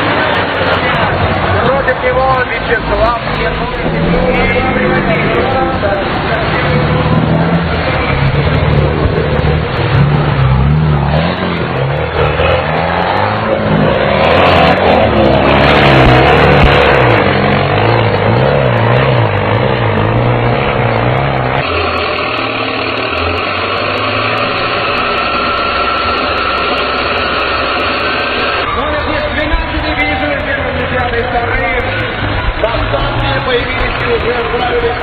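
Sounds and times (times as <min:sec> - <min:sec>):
rushing noise: 0:00.0 - 0:35.0
tractor engine revving: 0:00.0 - 0:35.0.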